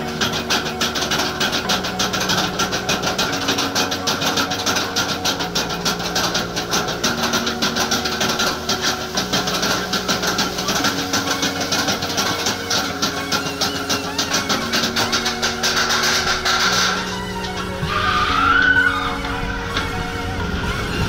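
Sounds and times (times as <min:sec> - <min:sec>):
fast ticking rhythm: 0:00.0 - 0:21.0
held low music notes: 0:00.0 - 0:21.0.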